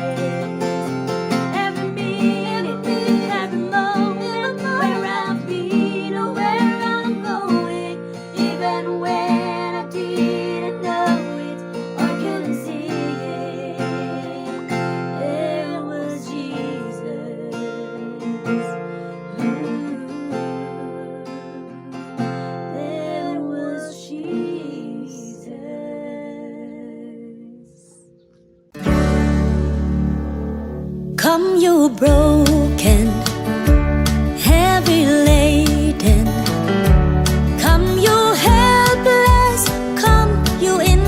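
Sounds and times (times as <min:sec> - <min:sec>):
acoustic guitar strumming chords: 0:00.0 - 0:25.9, 0:28.7 - 0:41.0.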